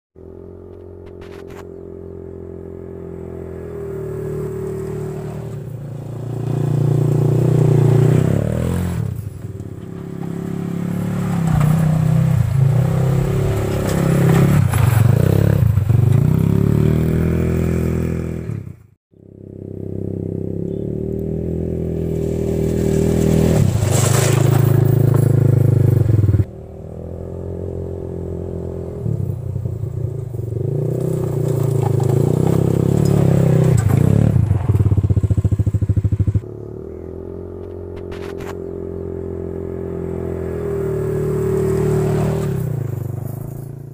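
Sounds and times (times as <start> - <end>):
quad bike engine revving: 0.2 - 43.9.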